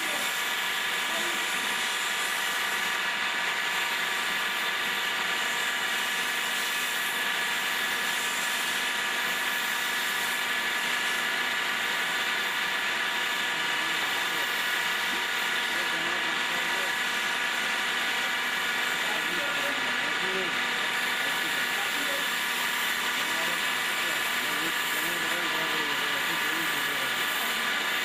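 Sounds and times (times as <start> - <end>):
lathe running: 0.0 - 28.0.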